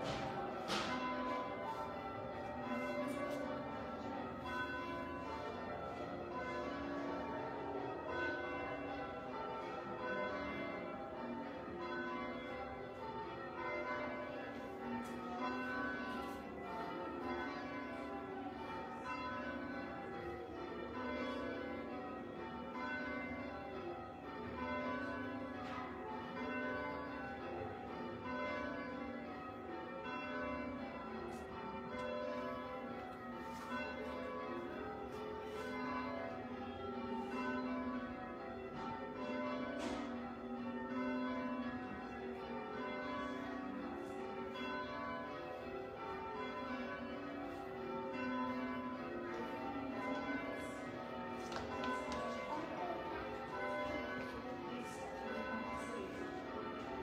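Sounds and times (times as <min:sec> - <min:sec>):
church bells change ringing: 0:00.0 - 0:57.0.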